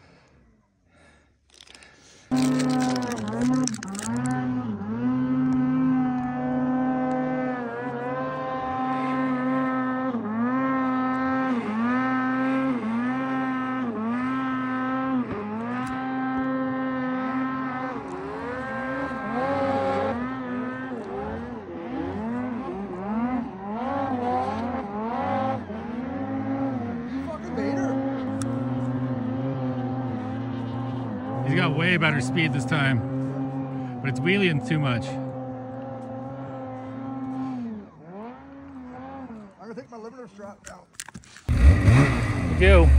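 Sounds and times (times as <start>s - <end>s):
snowmobile engine revving: 2.3s - 40.6s, 41.4s - 42.9s.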